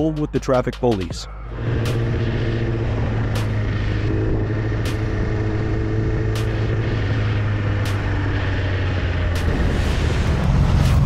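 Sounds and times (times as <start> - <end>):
motorcycle engine cruising: 0.0 - 11.0
road and wind noise: 0.0 - 11.0.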